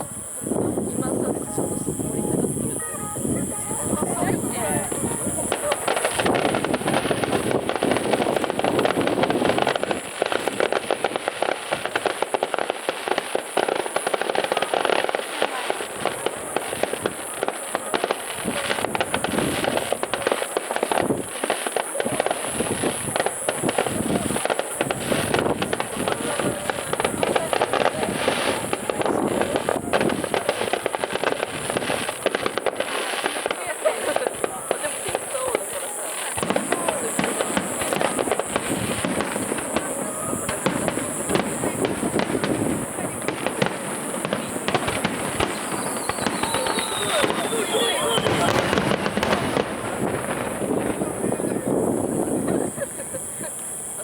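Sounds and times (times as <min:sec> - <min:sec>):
fireworks crackling barrage: 0:00.0 - 0:54.0.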